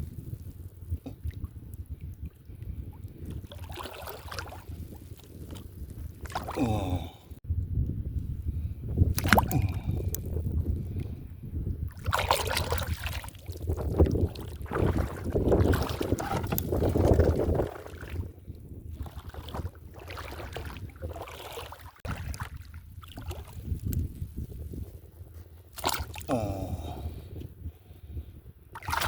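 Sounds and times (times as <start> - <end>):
wind rumbling on microphone: 0.0 - 29.0
water sloshing and splashing: 1.1 - 7.4, 9.1 - 11.1, 11.8 - 27.0, 28.7 - 29.0.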